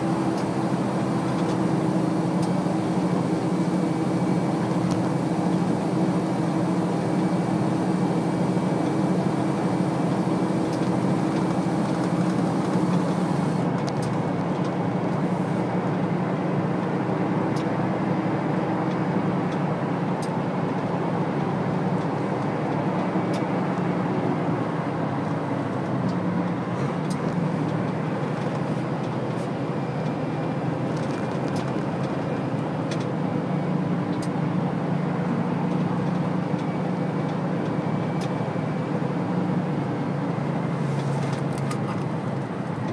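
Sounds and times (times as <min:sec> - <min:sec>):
low engine drone: 0:00.0 - 0:42.9
tyre road noise: 0:00.0 - 0:42.9.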